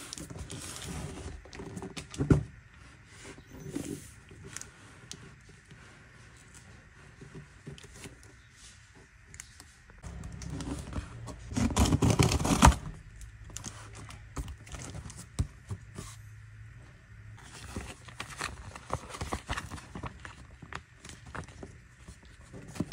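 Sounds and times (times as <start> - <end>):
cardboard scraping and rustling: 0.0 - 8.9, 10.0 - 16.3, 17.4 - 22.9.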